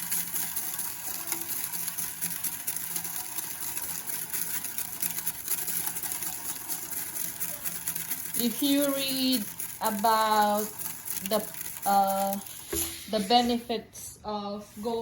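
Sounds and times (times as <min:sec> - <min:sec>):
salt grains pouring into plastic: 0:00.0 - 0:13.1.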